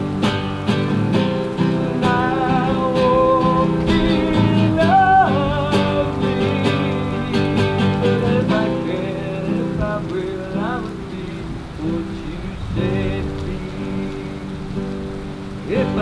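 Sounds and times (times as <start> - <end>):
song with acoustic guitar and beat: 0.0 - 16.0.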